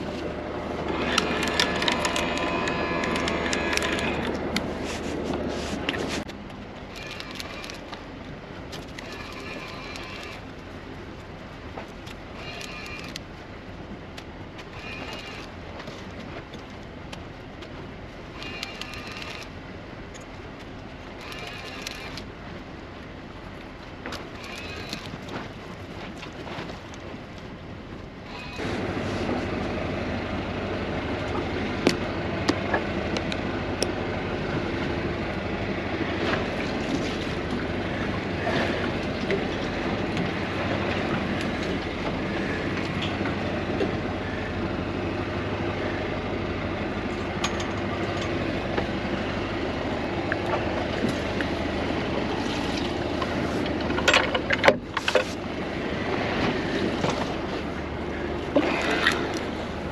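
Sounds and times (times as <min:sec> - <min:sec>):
boat motor running: 0:00.0 - 0:59.9
water noise: 0:00.0 - 0:59.9.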